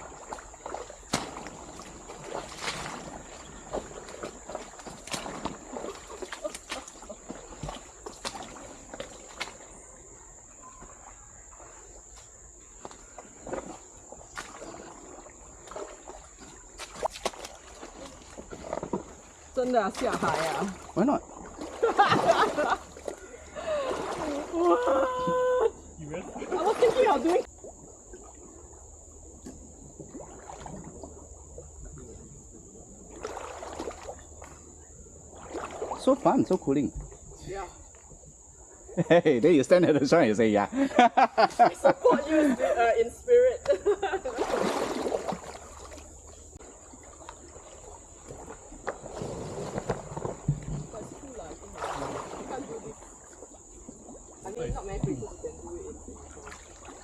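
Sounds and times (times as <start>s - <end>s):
forest insects droning: 0.0s - 57.0s.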